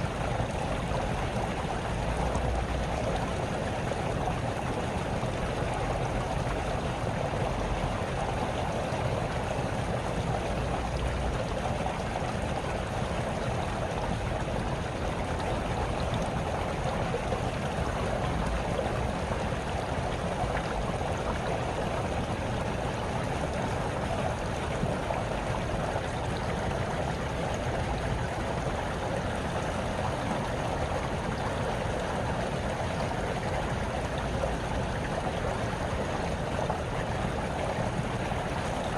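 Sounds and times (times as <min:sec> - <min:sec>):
brook trickling and babbling: 0:00.0 - 0:38.9.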